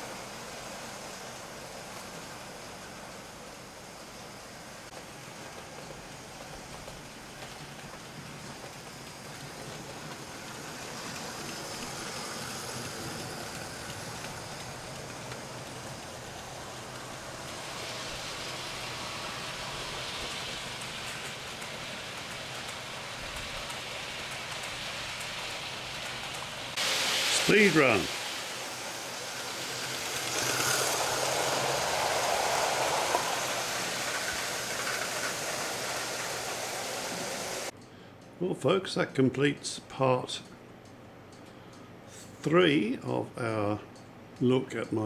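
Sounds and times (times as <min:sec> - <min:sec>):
model train whirring on rails: 0:00.0 - 0:37.7.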